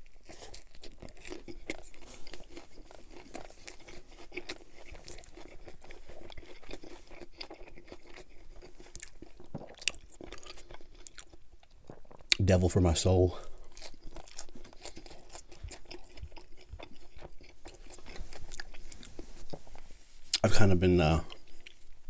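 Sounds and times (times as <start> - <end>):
chewing and biting wrap: 0.0 - 12.4, 13.4 - 20.4, 21.3 - 22.0
small crunches: 0.0 - 12.4, 13.5 - 22.0.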